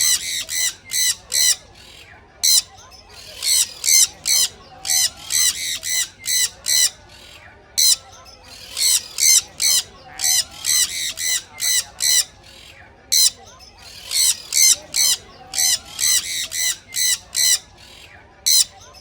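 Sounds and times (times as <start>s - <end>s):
parrot squawking: 0.0s - 19.0s.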